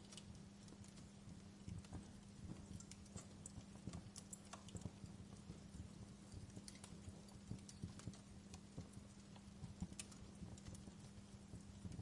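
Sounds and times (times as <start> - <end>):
faint low hum: 0.0 - 12.0
wood fire crackling: 0.0 - 12.0.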